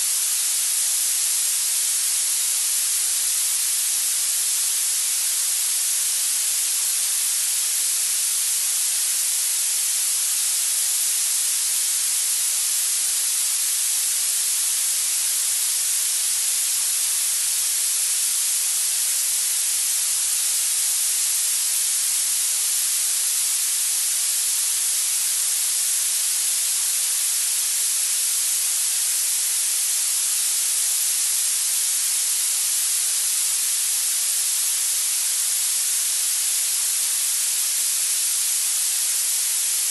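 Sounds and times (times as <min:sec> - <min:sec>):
steady high-pitched noise hiss: 0:00.0 - 0:39.9.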